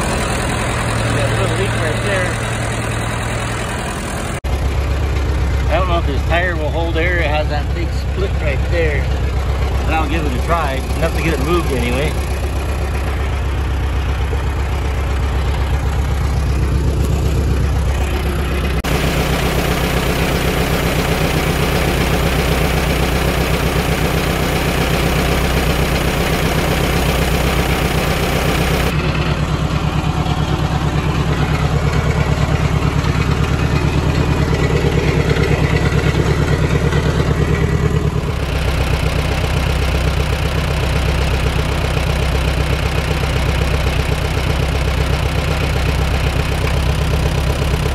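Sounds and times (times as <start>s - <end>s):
tractor engine idling: 0.0s - 47.9s.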